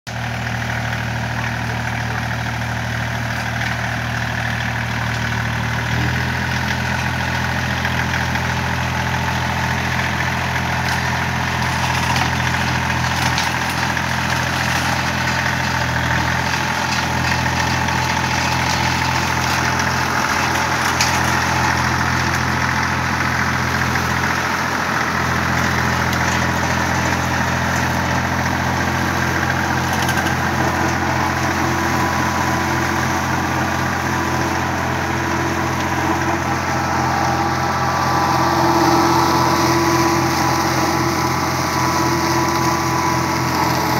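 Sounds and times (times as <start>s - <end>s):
tractor engine running under load: 0.1s - 43.9s
flail mower cutting weeds: 3.4s - 43.9s.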